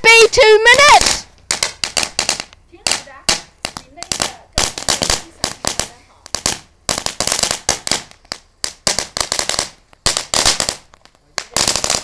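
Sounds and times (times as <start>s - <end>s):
ground firework crackling: 0.0s - 12.0s.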